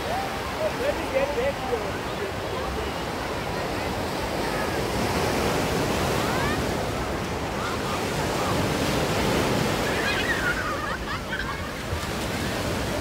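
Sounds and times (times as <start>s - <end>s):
waves washing up beach: 0.0s - 13.0s.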